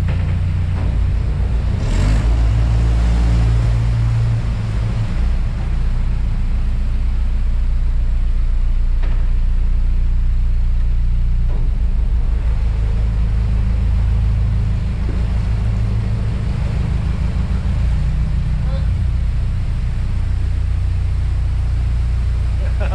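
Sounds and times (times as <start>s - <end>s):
boat engine droning: 0.0s - 22.9s.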